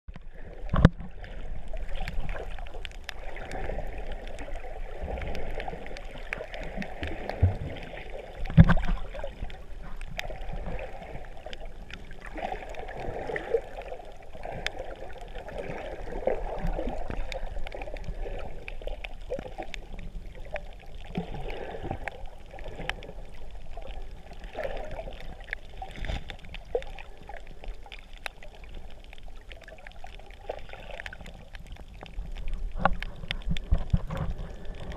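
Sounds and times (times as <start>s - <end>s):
faint ticks: 0.1s - 34.9s
muffled underwater hiss and gurgle: 0.1s - 34.9s.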